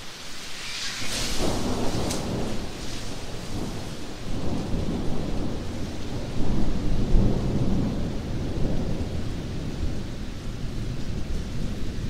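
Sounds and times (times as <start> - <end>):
steady rain: 0.0 - 12.0
low rumble of thunder: 0.8 - 12.0.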